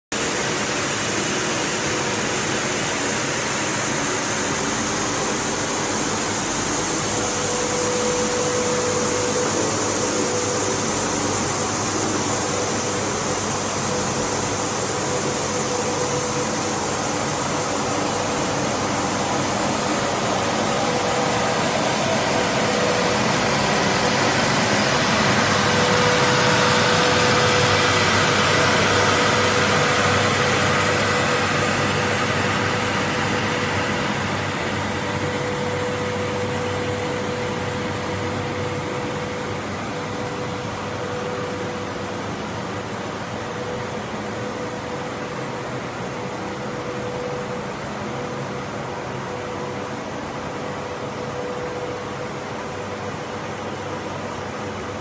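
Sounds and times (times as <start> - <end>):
machine hiss and hum: 0.1 - 55.0
faint machine whine: 0.2 - 55.0.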